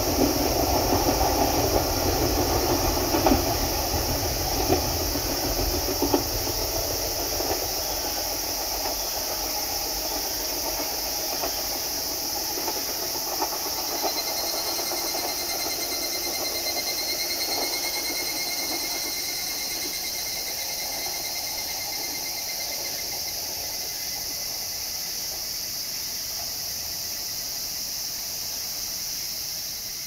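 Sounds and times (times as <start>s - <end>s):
electric train rumbling in tunnel: 0.0s - 30.0s
steady high hiss: 0.0s - 30.0s.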